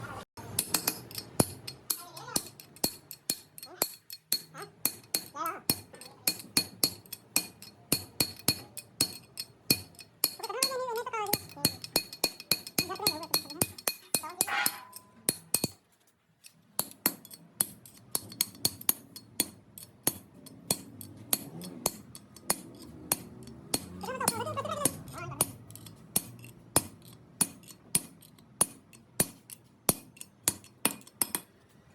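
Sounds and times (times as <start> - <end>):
hammer striking metal: 0.4 - 15.8, 16.8 - 31.6.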